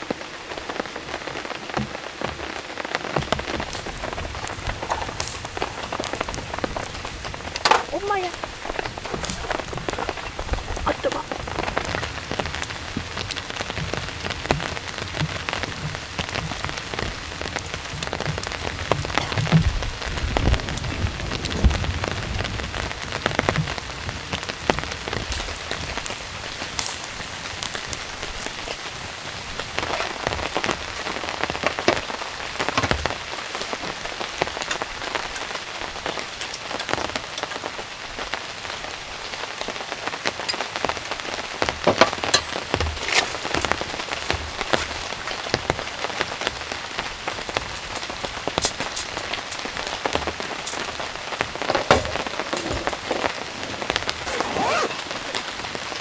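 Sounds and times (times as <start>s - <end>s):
rain falling in forest: 0.0s - 56.0s
raindrops ticking: 0.0s - 56.0s.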